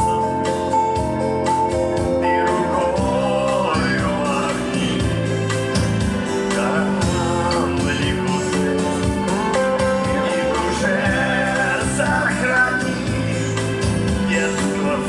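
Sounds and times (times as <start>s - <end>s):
live band music with keyboard: 0.0s - 15.0s
person singing: 1.9s - 15.0s.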